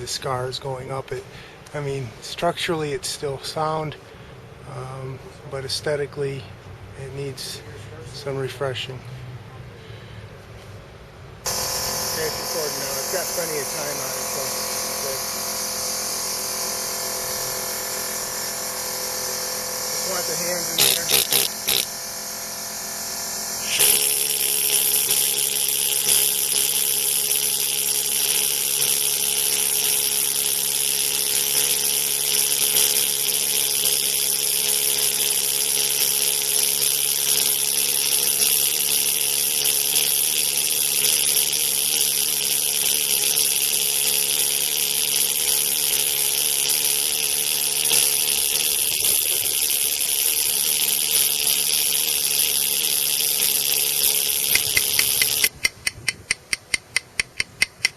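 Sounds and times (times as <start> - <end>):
power tool grinding stone: 11.4 - 57.9.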